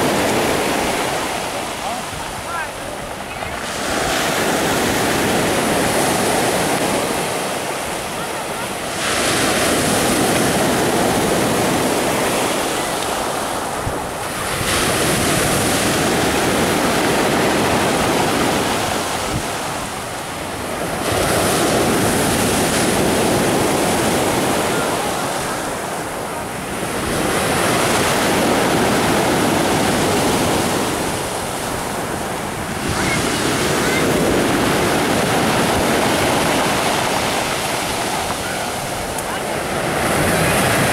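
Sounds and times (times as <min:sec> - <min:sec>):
waves washing up pebble beach: 0:00.0 - 0:40.9.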